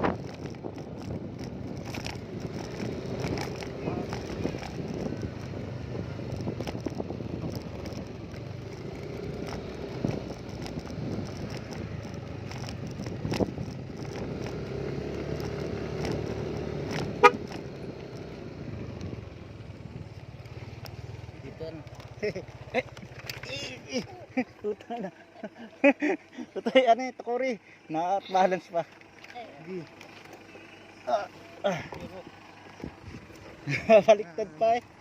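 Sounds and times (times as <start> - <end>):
engine droning: 0.0 - 35.0.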